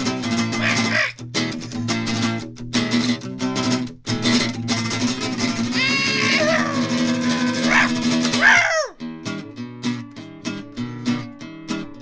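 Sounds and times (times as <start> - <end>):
guitar-led music with beat: 0.0 - 12.0.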